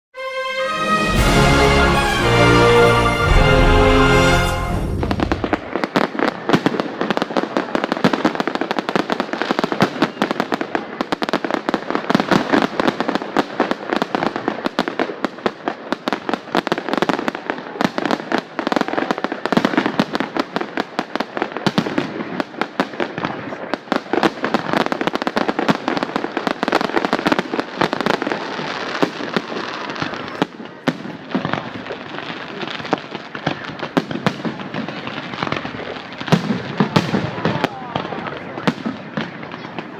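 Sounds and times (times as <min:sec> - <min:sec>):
fireworks bangs and crackling: 0:00.2 - 0:39.9.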